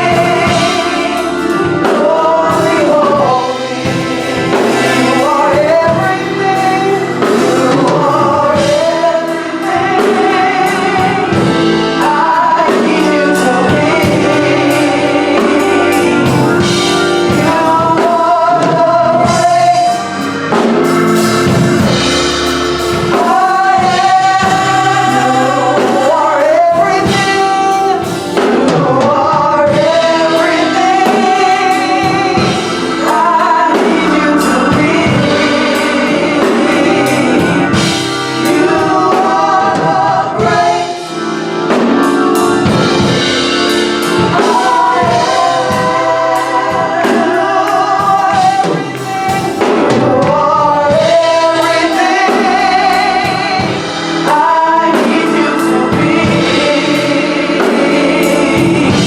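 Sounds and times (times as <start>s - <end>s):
gospel group singing: 0.0s - 59.0s
instruments and drum kit: 0.0s - 59.0s.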